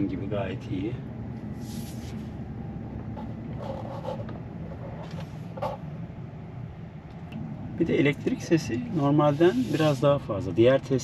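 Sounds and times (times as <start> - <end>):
electric motor low hum: 1.0 - 10.0.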